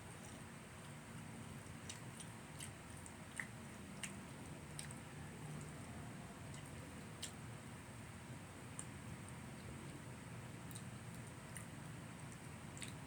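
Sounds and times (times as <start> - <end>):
low room hum: 0.0 - 13.0
soft chewing: 0.0 - 13.0.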